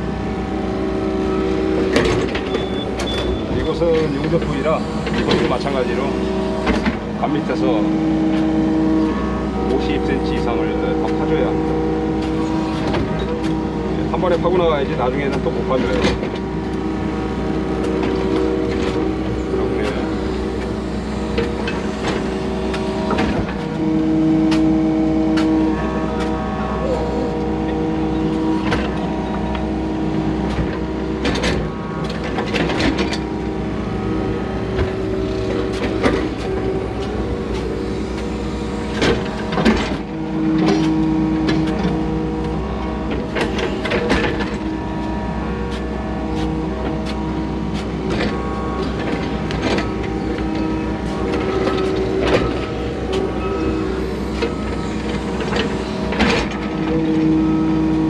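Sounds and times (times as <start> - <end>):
excavator engine under load: 0.0 - 58.0
hydraulic whine: 0.0 - 58.0.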